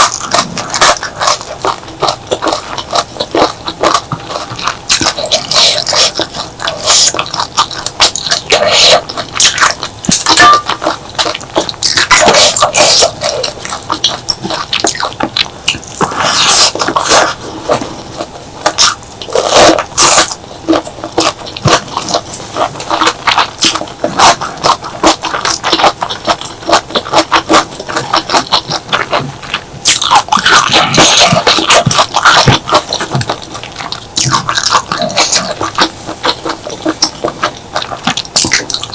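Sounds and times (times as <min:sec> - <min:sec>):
wet chewing and sucking: 0:00.0 - 0:38.9.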